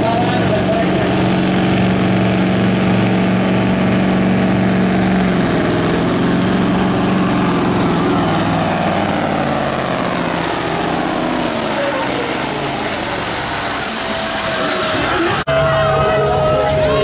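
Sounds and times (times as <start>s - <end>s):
truck diesel engine under load: 0.0s - 17.0s.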